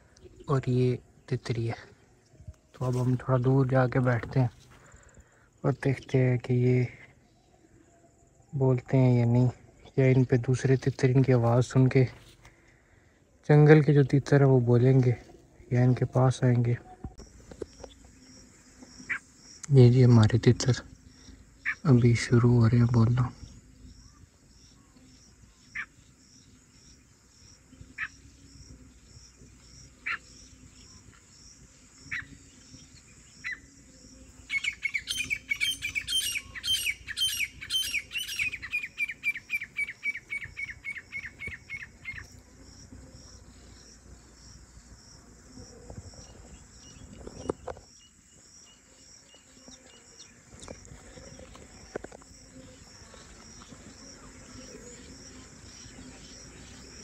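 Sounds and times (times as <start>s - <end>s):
insects pulsing: 0.0s - 57.0s.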